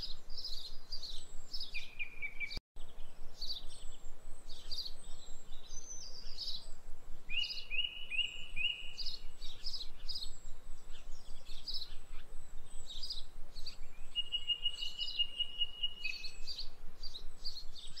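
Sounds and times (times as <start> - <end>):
birds chirping and singing: 0.0 - 18.0
rapid trilled bird call: 0.0 - 18.0.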